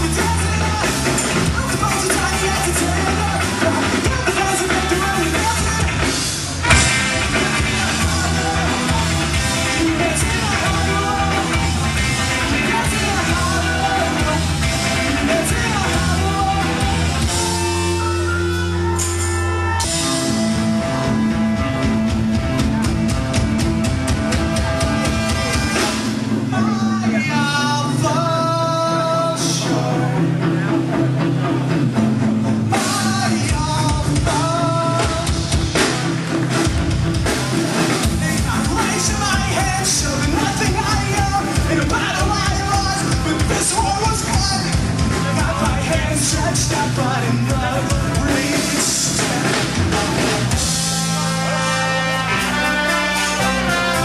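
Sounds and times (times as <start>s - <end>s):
person singing: 0.0s - 21.8s, 24.3s - 30.9s, 32.7s - 35.9s, 38.0s - 50.3s
rapid drumming: 0.0s - 26.9s, 31.8s - 51.6s
rock band playing: 0.0s - 54.0s.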